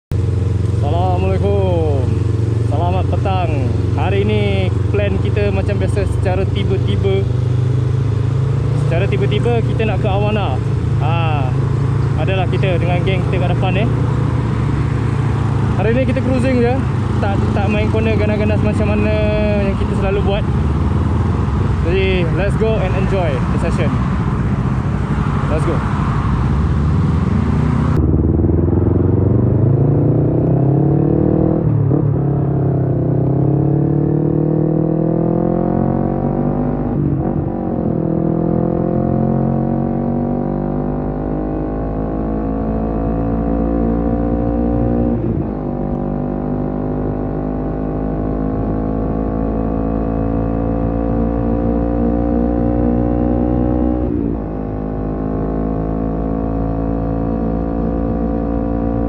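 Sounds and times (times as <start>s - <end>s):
motorcycle engine accelerating: 0.1s - 59.0s.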